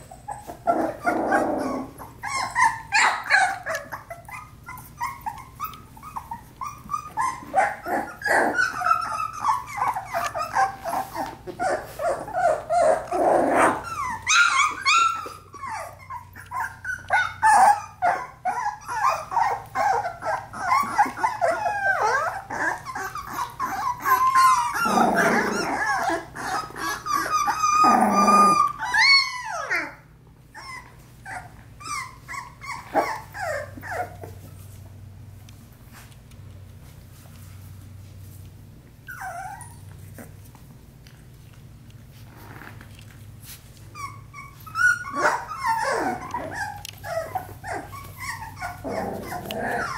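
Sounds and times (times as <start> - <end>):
puppies whimpering and yipping: 0.0 - 36.1, 38.8 - 41.4, 43.4 - 49.9
puppies growling and barking: 0.0 - 49.9.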